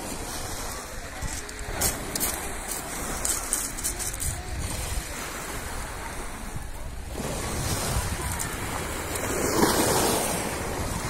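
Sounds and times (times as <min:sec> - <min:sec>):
surf washing over pebbles: 0:00.0 - 0:11.0
wind rumbling on microphone: 0:00.0 - 0:11.0.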